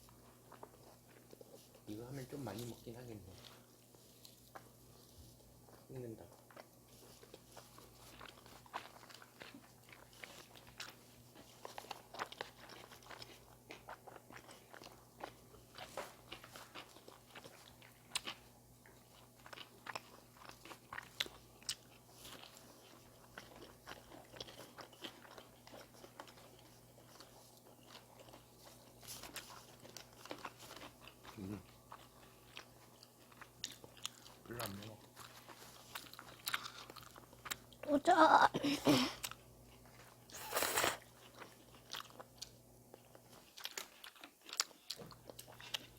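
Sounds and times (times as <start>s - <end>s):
person chewing crunchy food: 0.0s - 38.3s, 38.9s - 45.9s.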